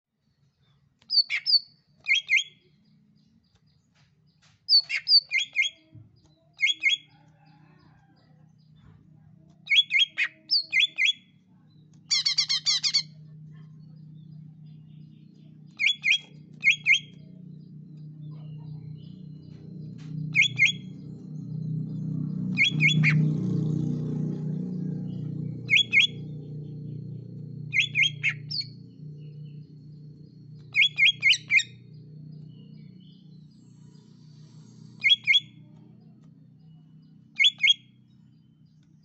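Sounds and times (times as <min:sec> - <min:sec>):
low steady hum: 0:00.2 - 0:39.0
bird chirping: 0:00.6 - 0:35.8, 0:36.6 - 0:39.0
bird trill: 0:01.1 - 0:03.4, 0:04.7 - 0:08.8, 0:09.6 - 0:34.2, 0:35.0 - 0:35.7, 0:36.6 - 0:39.0.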